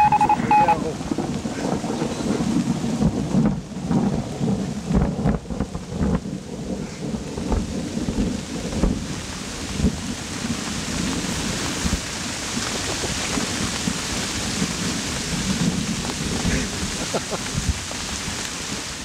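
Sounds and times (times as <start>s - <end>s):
low thunder rumbling: 0.0s - 19.0s
rain falling: 0.0s - 19.0s.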